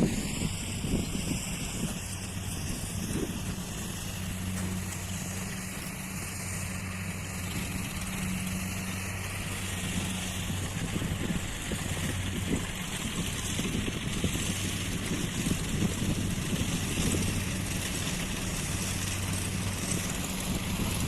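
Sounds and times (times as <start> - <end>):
heavy vehicle engine humming: 0.0 - 21.0.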